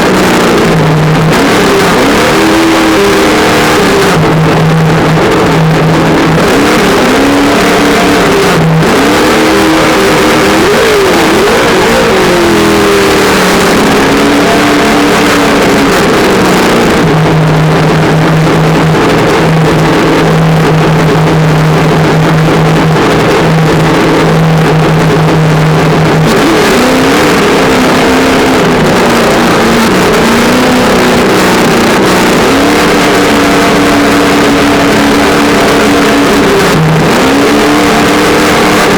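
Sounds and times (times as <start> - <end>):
simulated engine sound from speaker: 0.0 - 38.9.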